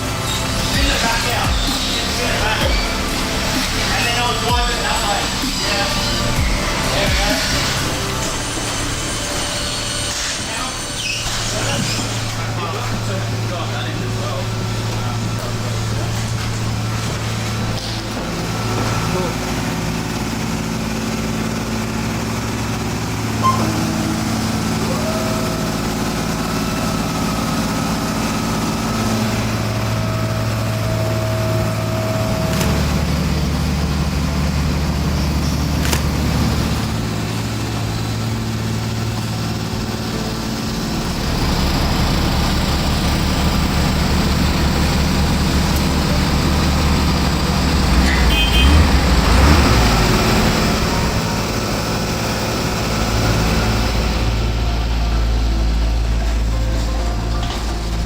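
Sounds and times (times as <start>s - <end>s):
heavy engines humming: 0.0s - 58.0s
loud rattling: 0.0s - 58.0s.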